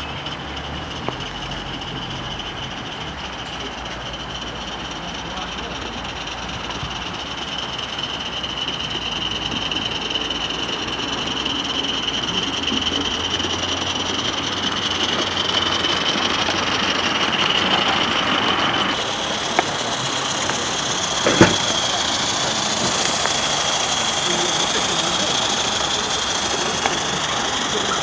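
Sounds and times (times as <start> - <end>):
steam locomotive hissing and running: 0.0 - 28.0.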